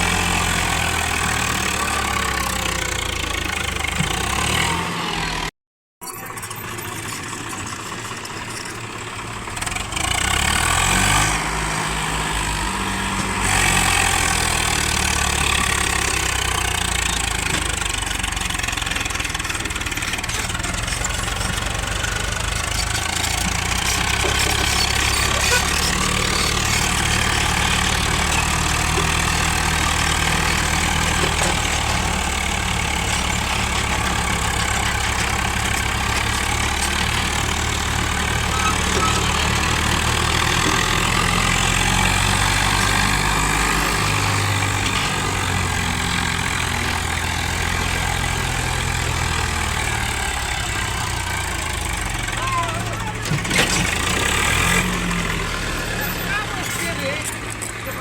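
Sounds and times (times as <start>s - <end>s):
heavy diesel engine running: 0.0s - 5.5s, 6.2s - 58.0s.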